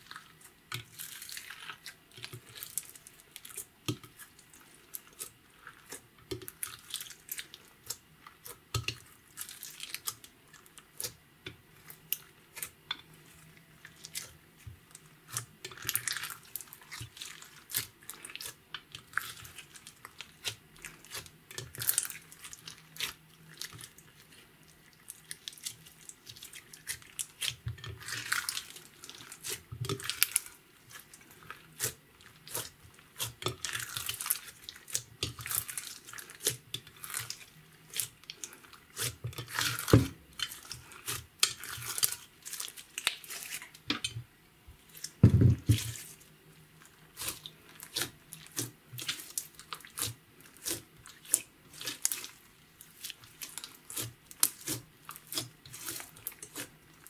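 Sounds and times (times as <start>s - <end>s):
slime squelching by hand: 0.0s - 44.1s, 44.8s - 57.0s.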